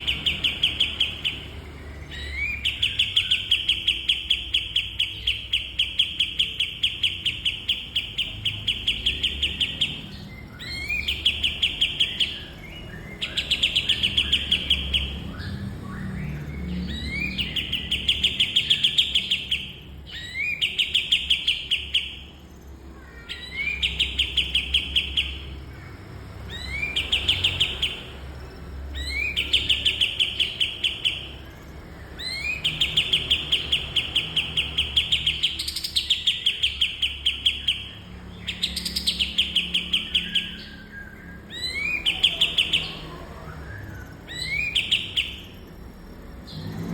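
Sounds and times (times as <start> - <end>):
songbird singing rapid trills: 0.0 - 46.9.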